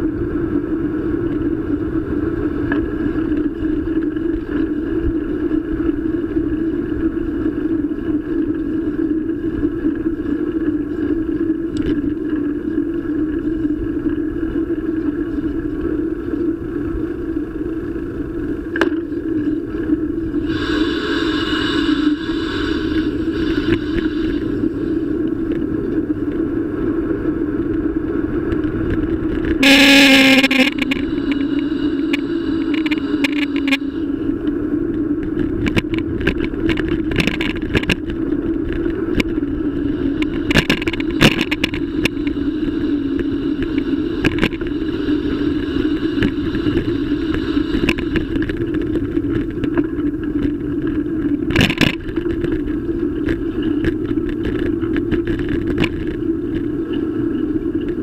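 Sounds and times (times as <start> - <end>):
riding hum: 0.0 - 58.0.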